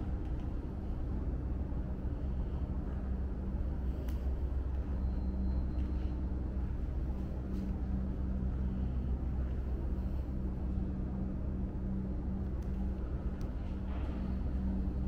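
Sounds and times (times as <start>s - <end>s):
low hum with droning tone: 0.0s - 15.0s.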